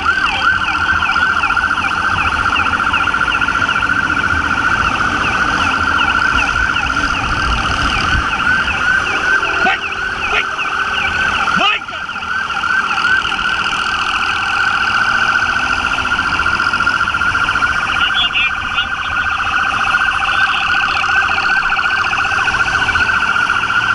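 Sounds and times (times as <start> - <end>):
engine and wind rumble: 0.0 - 23.9
police siren yelping: 0.0 - 23.9.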